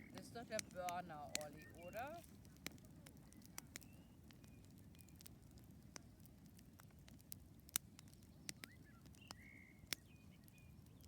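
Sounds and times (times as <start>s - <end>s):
campfire wood crackling: 0.0s - 11.0s.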